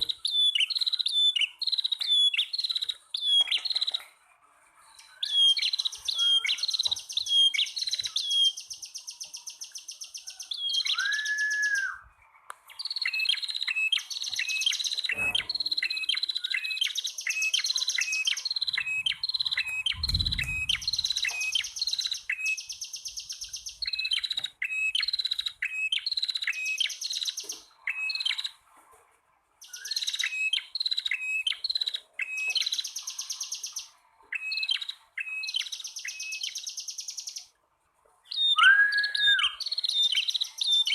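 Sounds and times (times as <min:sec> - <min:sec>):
birds sharp repeated chirps: 0:00.0 - 0:28.8, 0:29.4 - 0:37.6, 0:38.2 - 0:40.9.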